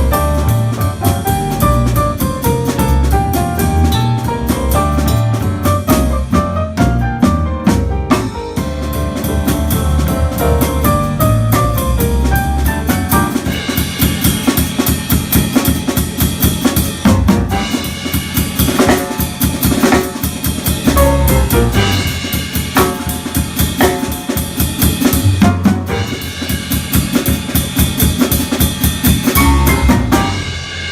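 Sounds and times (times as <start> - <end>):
drum kit: 0.0 - 30.9
instrumental band music: 0.0 - 30.9.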